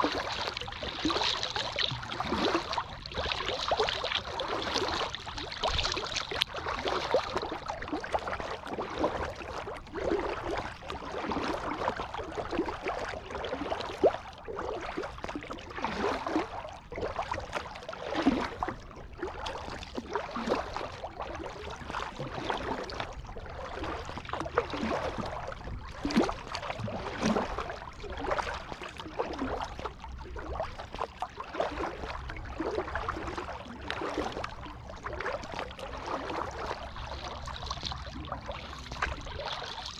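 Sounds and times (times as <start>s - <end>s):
paddle splashing in water: 0.0s - 39.9s
water gurgling along hull: 0.0s - 39.9s.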